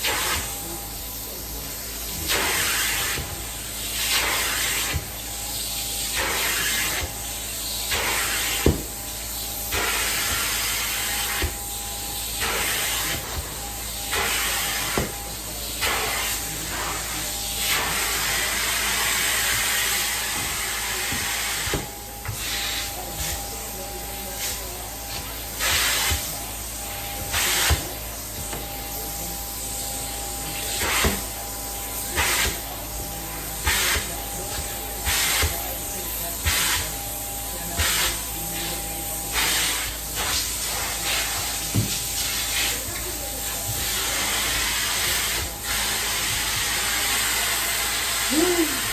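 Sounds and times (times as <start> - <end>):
cleaning machine humming: 0.1 - 48.9.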